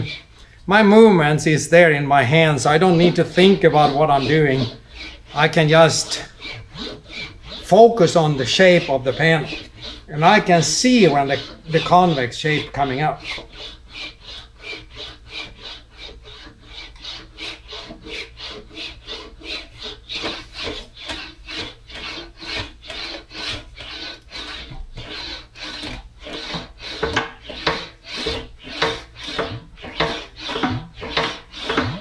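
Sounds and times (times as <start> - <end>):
english wheel rasping on sheet metal: 0.0 - 32.0.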